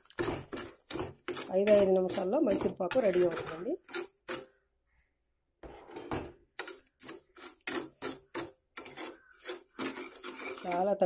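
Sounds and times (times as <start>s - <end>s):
spoon scraping metal pot: 0.0s - 4.6s, 5.6s - 11.0s.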